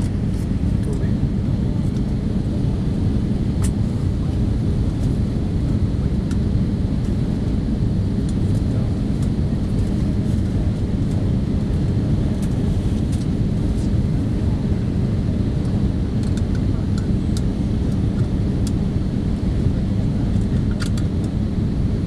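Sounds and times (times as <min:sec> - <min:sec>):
airplane cabin roar: 0:00.0 - 0:22.0.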